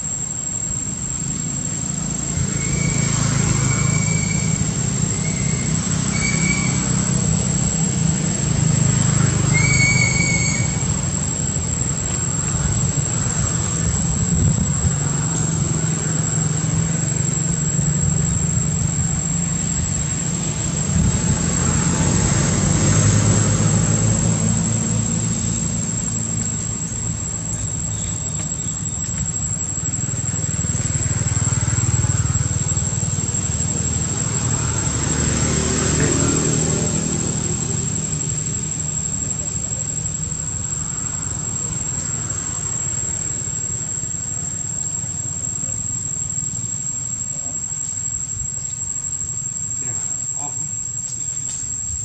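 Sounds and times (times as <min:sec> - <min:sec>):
low engine-like rumble: 0:00.0 - 0:52.0
thin high-pitched whine: 0:00.0 - 0:52.0.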